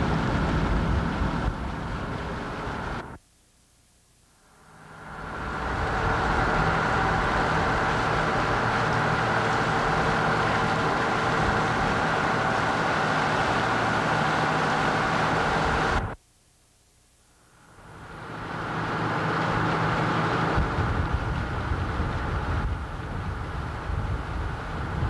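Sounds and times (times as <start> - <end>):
boat engine droning: 0.0 - 3.2, 4.5 - 16.2, 17.6 - 25.0.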